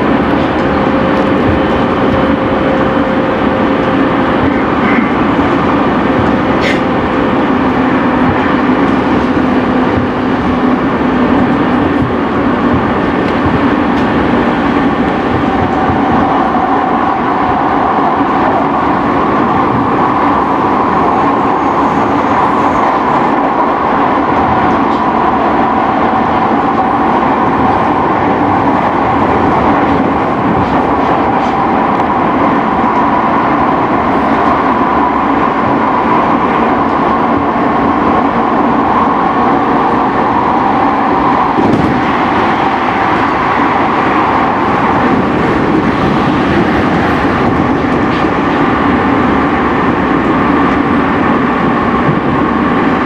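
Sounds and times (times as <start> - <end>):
higher hum: 0.0 - 53.0
train wheels rumbling on rails: 0.0 - 53.0.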